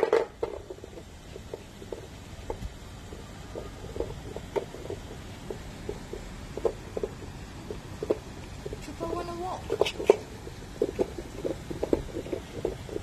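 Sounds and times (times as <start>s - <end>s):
dog gnawing on a chew: 0.3s - 8.9s, 9.6s - 13.0s.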